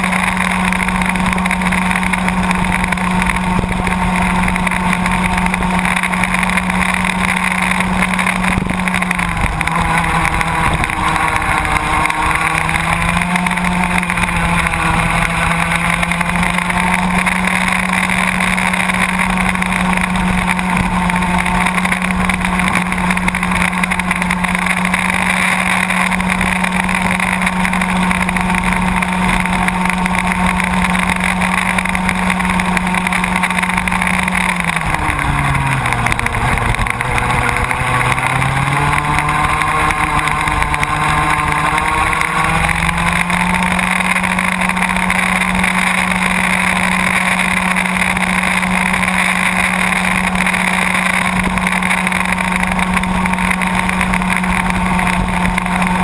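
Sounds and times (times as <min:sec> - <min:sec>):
go-kart engine at high revs: 0:00.0 - 0:56.0.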